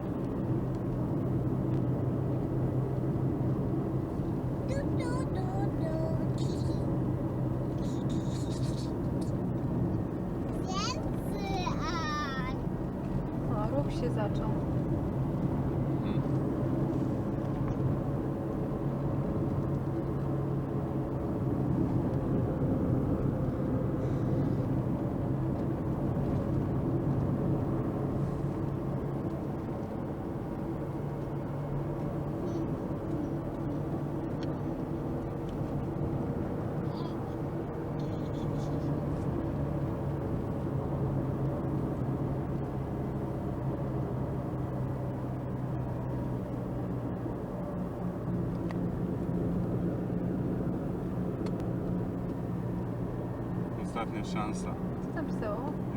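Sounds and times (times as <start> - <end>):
car engine drone: 0.0 - 55.9
road noise inside car: 0.0 - 55.9.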